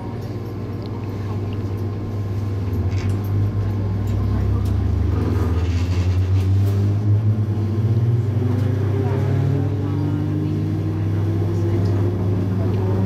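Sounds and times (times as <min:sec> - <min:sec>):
electric train motor hum: 0:00.0 - 0:13.0
train running gear rumble: 0:00.0 - 0:13.0.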